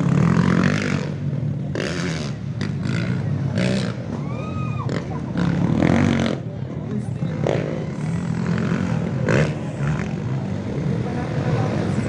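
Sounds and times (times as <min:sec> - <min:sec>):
crowd chatter: 0:00.0 - 0:12.0
dirt bike engine humming: 0:00.0 - 0:12.0.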